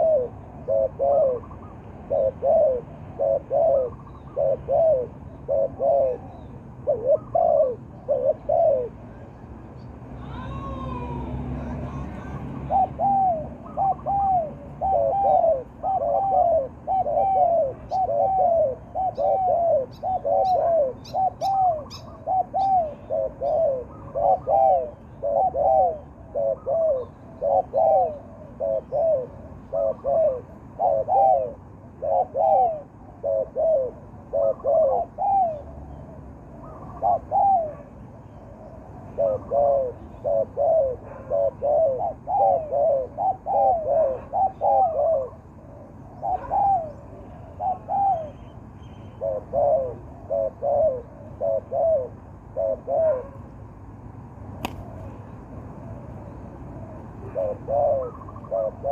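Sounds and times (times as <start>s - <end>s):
doves cooing: 0.0s - 9.4s, 10.2s - 53.6s, 54.6s - 58.9s.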